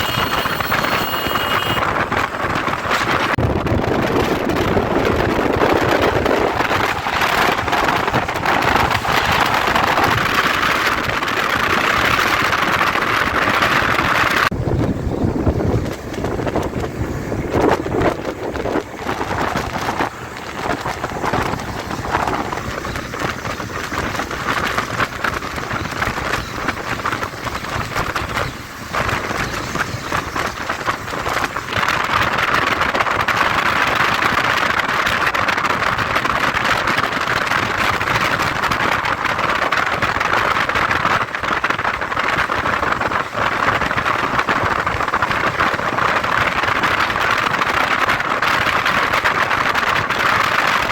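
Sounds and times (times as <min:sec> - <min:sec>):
motorcycle road noise: 0:00.0 - 0:50.9
wind rushing: 0:00.0 - 0:50.9.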